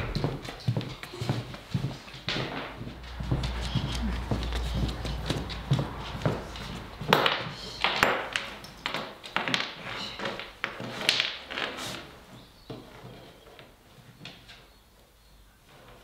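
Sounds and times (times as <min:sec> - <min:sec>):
footsteps on plywood floor: 0:00.0 - 0:13.2.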